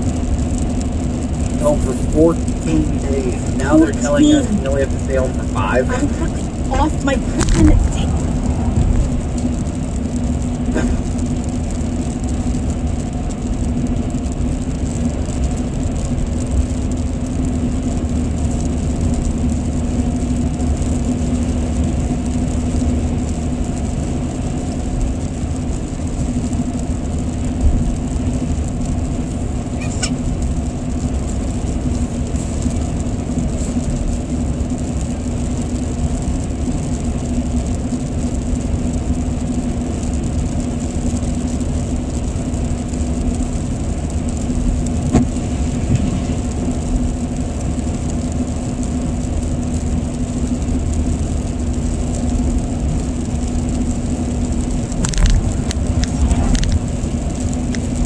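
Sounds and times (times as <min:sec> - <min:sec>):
engine drone: 0:00.0 - 0:58.0
tyres on wet pavement: 0:00.0 - 0:58.0.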